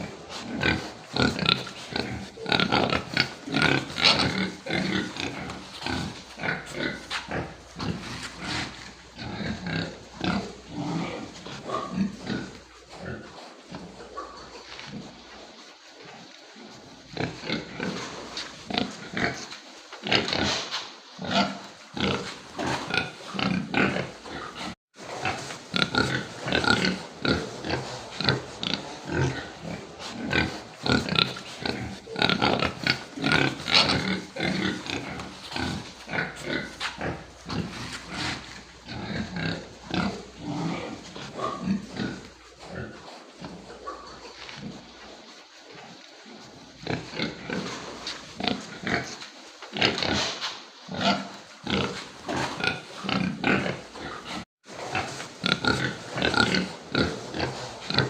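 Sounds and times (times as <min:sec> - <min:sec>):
pigs calling: 0:00.0 - 0:58.0.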